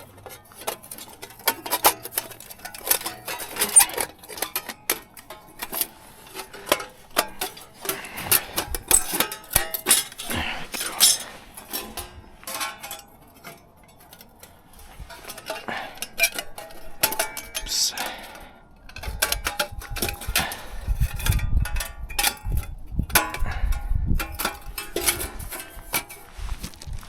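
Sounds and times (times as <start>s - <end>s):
metal camp gear clinking: 0.0s - 27.0s.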